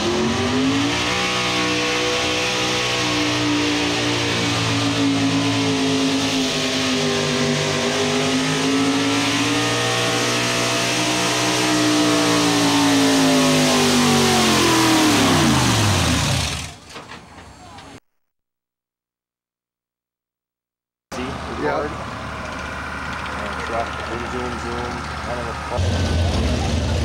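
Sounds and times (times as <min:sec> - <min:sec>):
truck engine at high revs: 0:00.0 - 0:17.0, 0:21.1 - 0:27.0.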